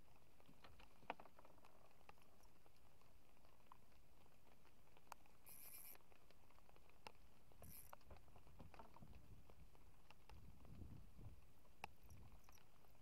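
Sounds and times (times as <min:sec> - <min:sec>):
faint ticks: 0:00.0 - 0:13.0.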